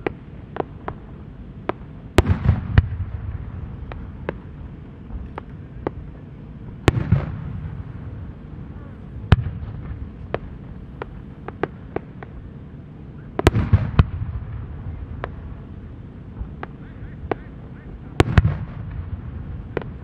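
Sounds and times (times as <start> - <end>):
firework shells booming: 0.0 - 6.1, 6.7 - 8.4, 9.0 - 12.4, 13.2 - 20.0
sharp firework reports: 0.0 - 20.0.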